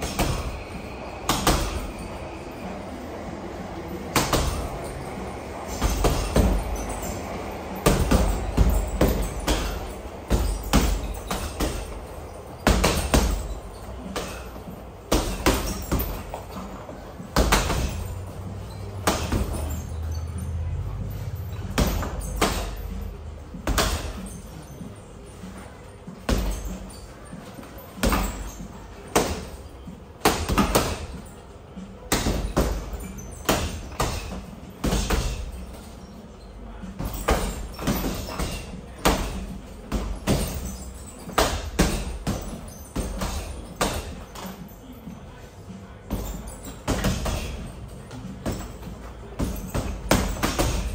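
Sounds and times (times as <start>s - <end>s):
gloves thudding on punching bags: 0.0s - 2.1s, 4.1s - 4.8s, 5.7s - 7.0s, 7.8s - 20.1s, 21.6s - 24.6s, 26.1s - 31.4s, 32.1s - 35.9s, 36.8s - 44.7s, 46.0s - 50.9s.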